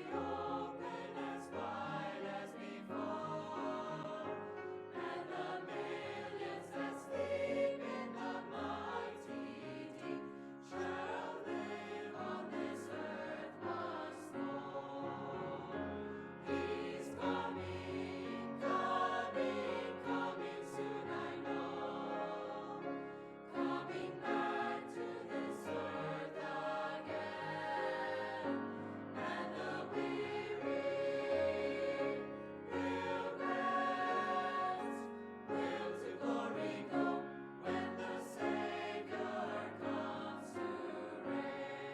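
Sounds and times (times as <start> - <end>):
choir singing sacred music: 0.0 - 41.9.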